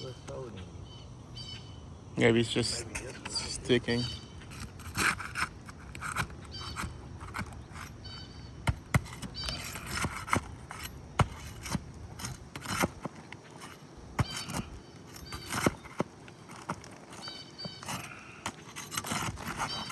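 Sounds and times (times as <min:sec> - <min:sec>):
hand tool scraping: 0:02.6 - 0:19.9.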